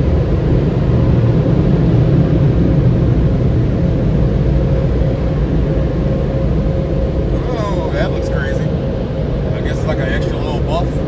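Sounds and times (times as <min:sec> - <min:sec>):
car wash air dryers roaring: 0:00.0 - 0:11.0.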